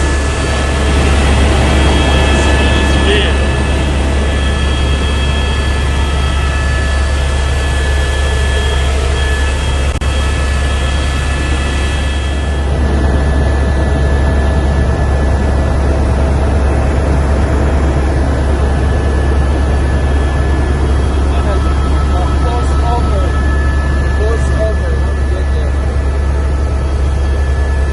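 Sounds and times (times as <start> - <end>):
helicopter drone: 0.0 - 27.9
helicopter high whine: 0.0 - 27.9.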